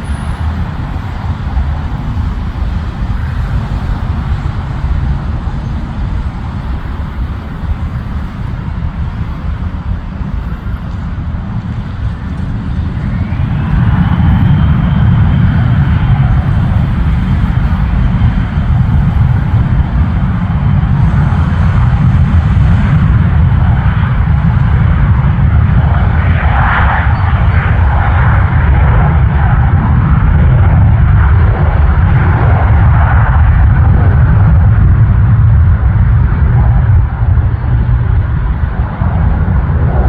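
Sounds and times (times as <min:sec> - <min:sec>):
airplane engines rumbling: 0:00.0 - 0:40.0.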